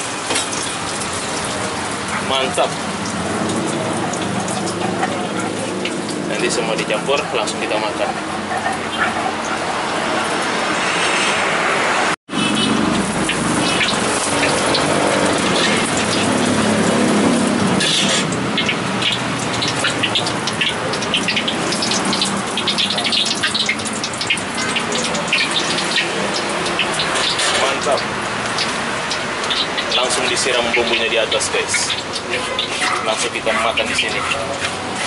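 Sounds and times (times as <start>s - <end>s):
hot oil sizzling in a wok: 0.0s - 11.1s, 12.3s - 35.0s.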